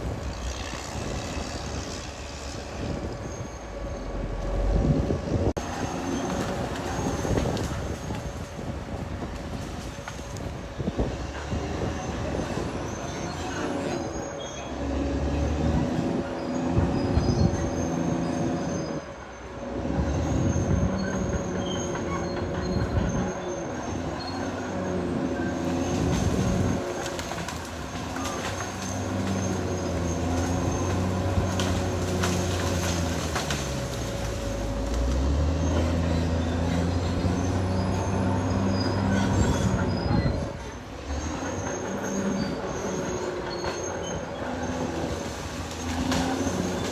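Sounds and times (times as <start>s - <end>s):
steady squeal: 0.0s - 8.7s, 9.8s - 46.9s
bulldozer diesel engine: 0.0s - 46.9s
metallic clanking of steel tracks: 0.0s - 46.9s.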